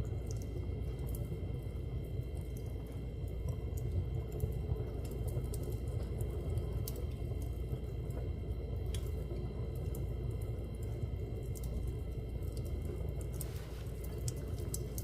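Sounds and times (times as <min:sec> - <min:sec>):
fire burning in a fireplace: 0:00.0 - 0:15.0
fire crackles and pops: 0:00.0 - 0:15.0.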